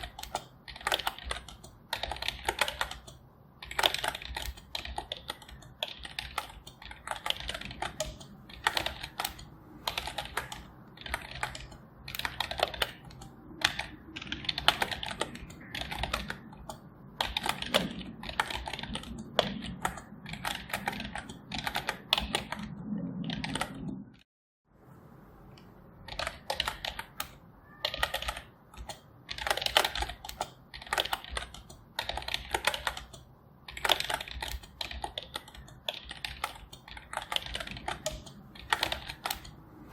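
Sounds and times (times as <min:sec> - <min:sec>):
keyboard key clicks: 0:00.0 - 0:24.0, 0:25.5 - 0:39.6.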